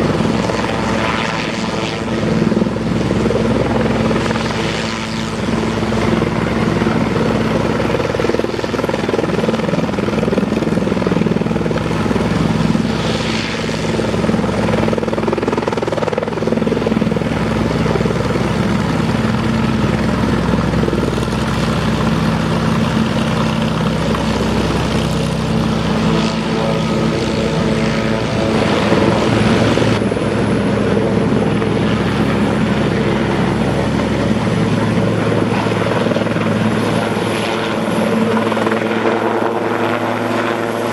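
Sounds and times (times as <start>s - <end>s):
helicopter rotor and turbine drone: 0.0s - 40.9s.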